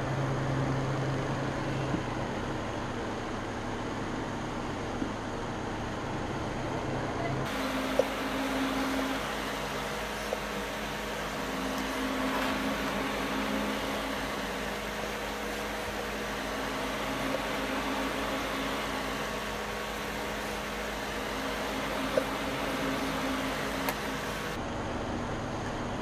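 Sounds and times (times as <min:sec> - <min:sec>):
fan humming and hissing: 0:00.0 - 0:26.0.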